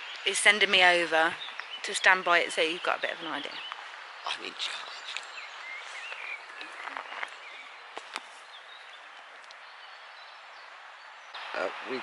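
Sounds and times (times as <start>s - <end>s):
soft steady hiss: 0.0s - 12.0s
bird twittering: 0.2s - 11.4s.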